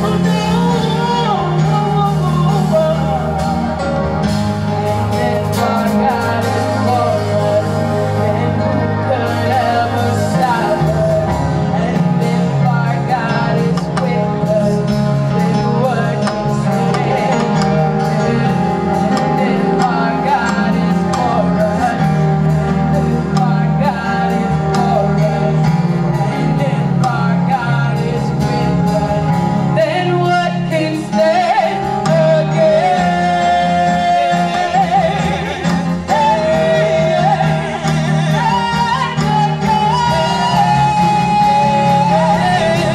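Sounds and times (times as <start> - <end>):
band playing sustained chords: 0.0 - 42.9
person singing wordless melody: 0.0 - 42.9.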